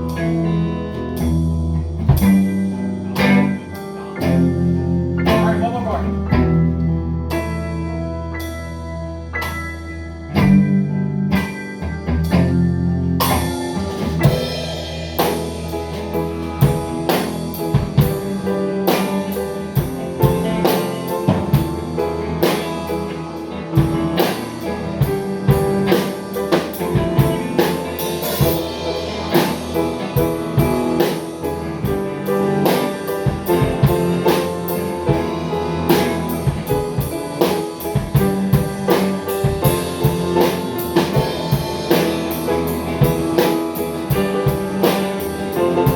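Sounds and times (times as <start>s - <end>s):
drum kit beat: 0.0s - 45.9s
guitar playing: 0.0s - 45.9s.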